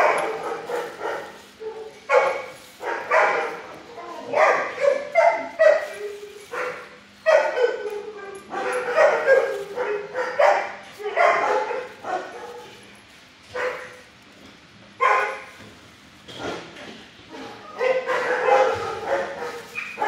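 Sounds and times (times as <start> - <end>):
dogs barking: 0.0 - 14.2, 15.0 - 15.6, 17.3 - 20.0.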